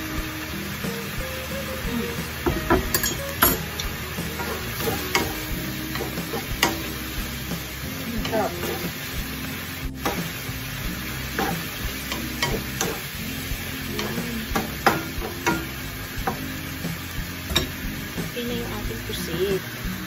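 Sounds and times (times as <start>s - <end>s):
food sizzling in a pan: 0.0s - 20.0s
wooden spatula scraping a pan: 1.6s - 18.1s.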